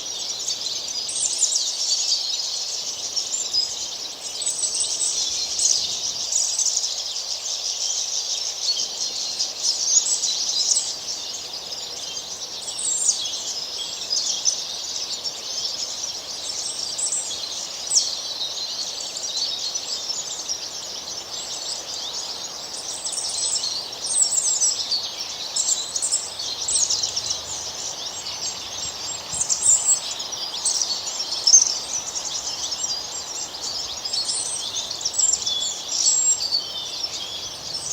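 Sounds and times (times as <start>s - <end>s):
songbirds chirping and singing: 0.0s - 37.9s.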